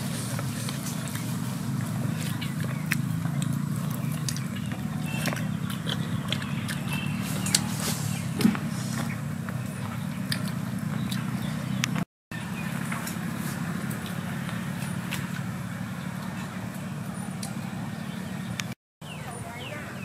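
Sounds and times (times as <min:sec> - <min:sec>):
low motor hum: 0:00.0 - 0:19.6.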